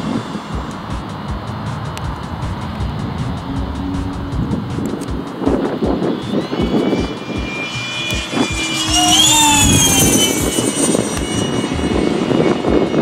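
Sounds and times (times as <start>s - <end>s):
model jet fan whine flying past: 0.0s - 13.0s.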